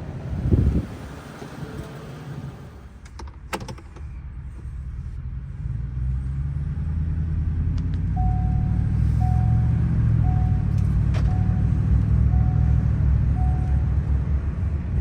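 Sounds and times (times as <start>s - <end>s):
truck exhaust drone: 0.0s - 3.0s, 4.7s - 15.0s.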